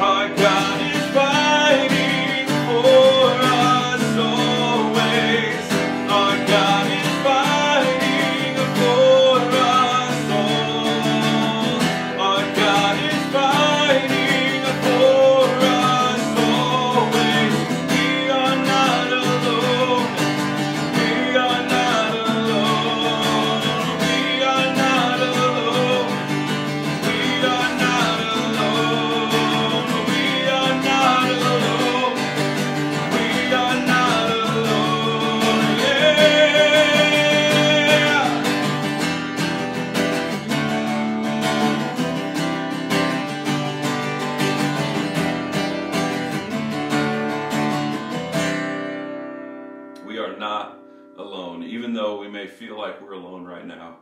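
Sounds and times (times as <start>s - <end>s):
man singing: 0.0s - 39.5s, 50.0s - 54.0s
acoustic guitar strumming: 0.0s - 53.9s.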